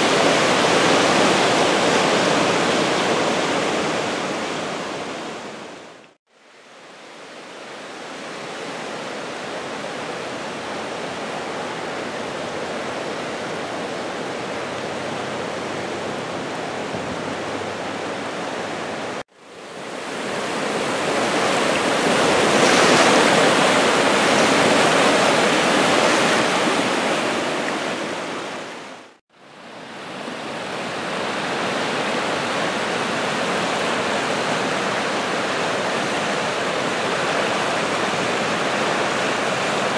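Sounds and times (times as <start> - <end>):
rushing brook whitewater: 0.0 - 39.9.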